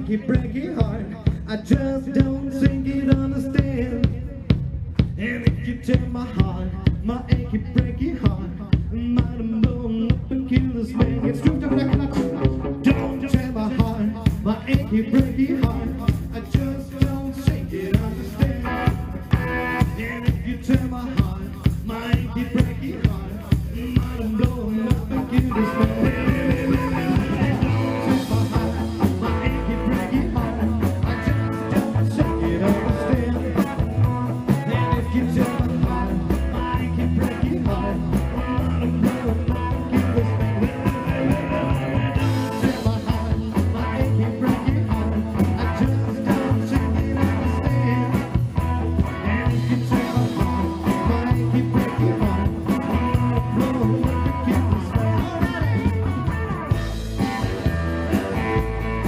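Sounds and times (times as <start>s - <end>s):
bass line: 0.0s - 59.0s
electric guitar: 0.0s - 59.0s
steady drum beat: 0.0s - 59.0s
person singing: 5.2s - 59.0s.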